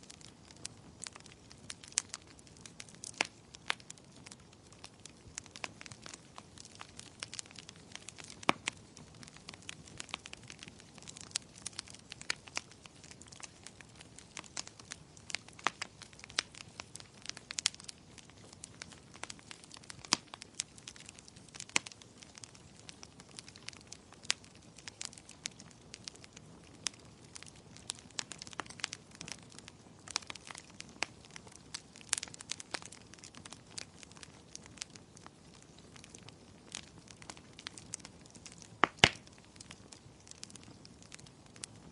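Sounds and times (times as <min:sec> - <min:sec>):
fire crackling: 0:00.0 - 0:41.9.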